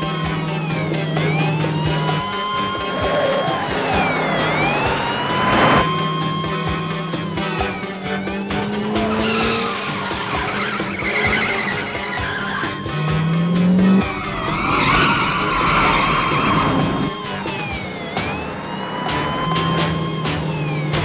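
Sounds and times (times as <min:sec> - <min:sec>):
background music: 0:00.0 - 0:21.0
car engines revving: 0:00.0 - 0:21.0
police siren wailing: 0:00.0 - 0:21.0
tyres squealing and skidding: 0:00.0 - 0:21.0.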